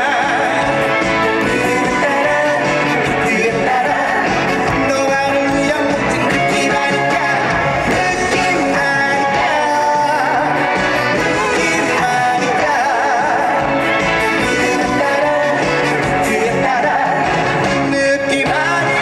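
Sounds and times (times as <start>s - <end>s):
band accompaniment: 0.0s - 19.0s
person singing with vibrato: 0.0s - 19.0s.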